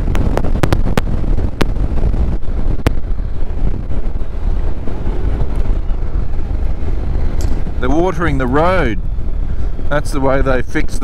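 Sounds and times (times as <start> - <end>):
motorcycle engine rumble: 0.0 - 11.0
wind buffeting microphone: 0.0 - 11.0.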